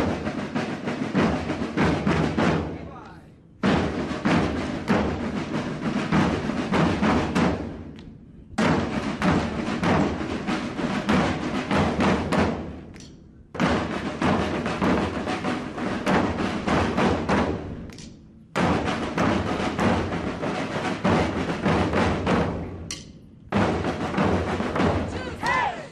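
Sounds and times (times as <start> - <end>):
bass and snare drums marching: 0.0 - 25.9.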